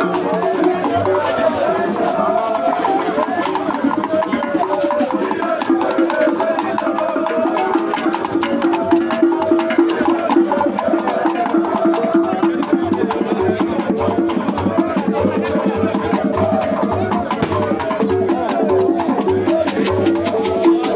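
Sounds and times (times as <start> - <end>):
crowd voices: 0.0 - 20.9
low drum beats: 0.1 - 20.9.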